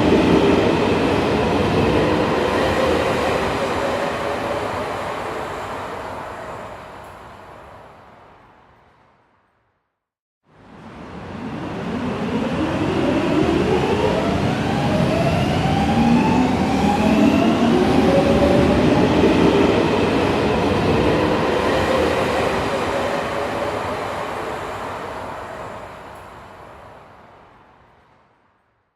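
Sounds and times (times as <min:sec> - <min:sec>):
train rumble: 0:00.0 - 0:08.8, 0:10.6 - 0:28.1.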